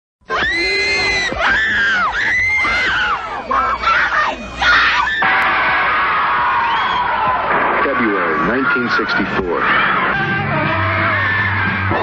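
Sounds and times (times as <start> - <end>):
women and girls screaming: 0.3 - 12.0.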